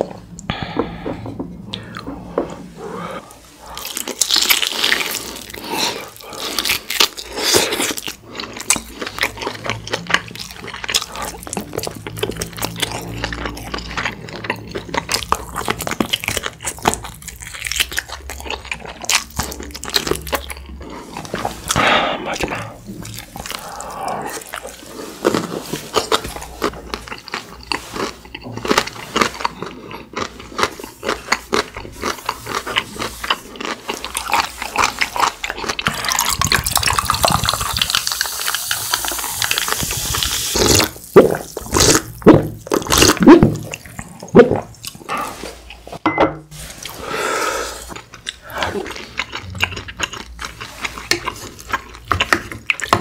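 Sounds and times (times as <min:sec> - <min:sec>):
chewing and mouth clicks: 0:03.8 - 0:45.9, 0:47.8 - 0:53.0.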